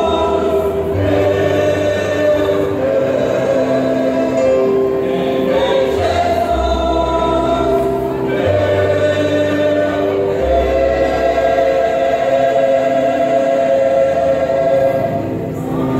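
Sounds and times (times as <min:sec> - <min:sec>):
mixed choir singing: 0:00.0 - 0:15.9.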